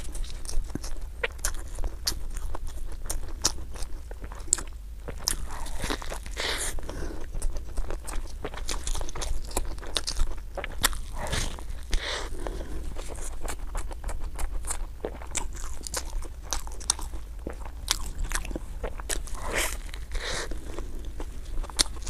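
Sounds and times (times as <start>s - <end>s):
person chewing a bun: 0.0s - 22.0s.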